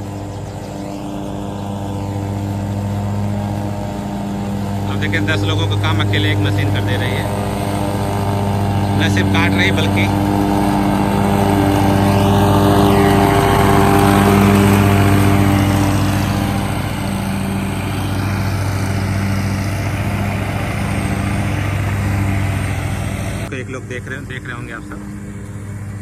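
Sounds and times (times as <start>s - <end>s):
riding mower cutting grass: 0.0s - 26.0s.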